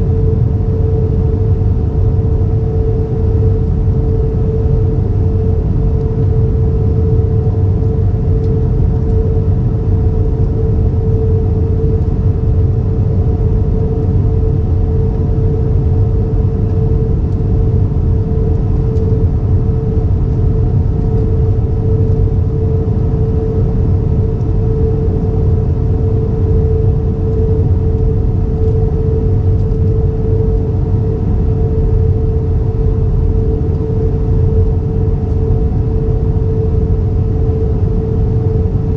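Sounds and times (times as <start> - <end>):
airplane cabin engine rumble: 0.0 - 38.9
mid-pitched hum: 0.0 - 38.9.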